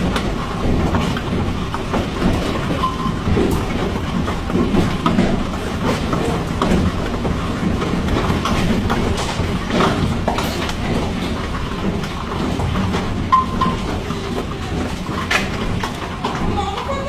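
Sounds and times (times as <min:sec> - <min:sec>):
hail and rain pelting: 0:00.0 - 0:17.0.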